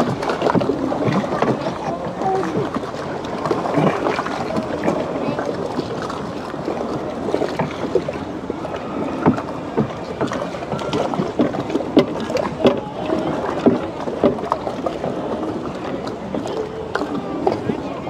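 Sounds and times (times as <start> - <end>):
paddles knocking against canoe hull: 0.0 - 17.9
background murmur: 0.0 - 18.0.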